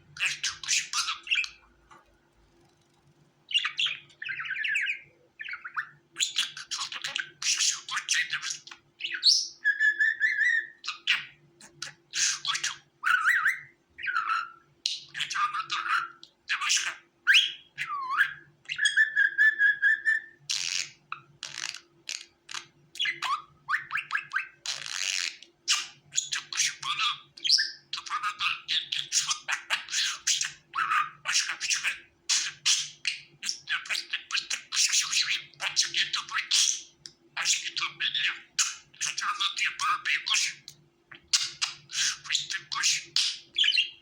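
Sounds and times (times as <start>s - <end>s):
budgerigar chattering and warbling: 0.2s - 1.6s, 3.5s - 44.0s.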